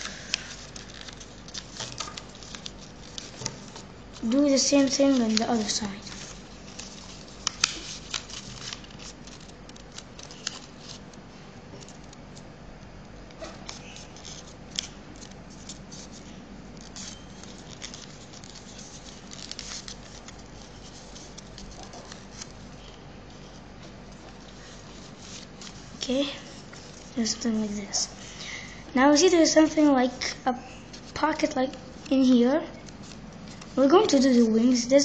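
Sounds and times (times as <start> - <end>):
paper being folded and creased: 0.0 - 11.2, 11.8 - 12.5, 13.3 - 28.0, 29.2 - 35.0.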